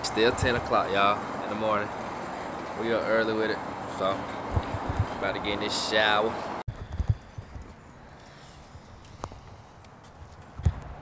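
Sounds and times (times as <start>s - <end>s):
faint outdoor background: 0.0s - 11.0s
footsteps on asphalt: 0.1s - 5.4s, 6.7s - 11.0s.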